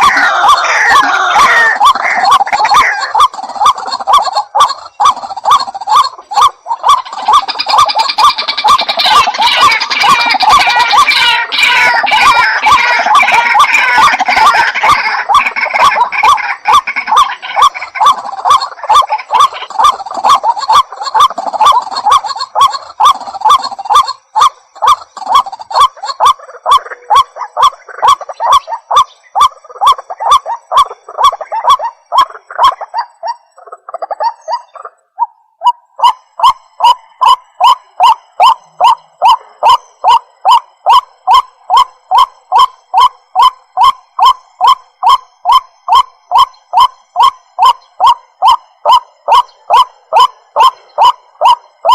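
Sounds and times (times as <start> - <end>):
waterhen calling: 0.0 - 51.9.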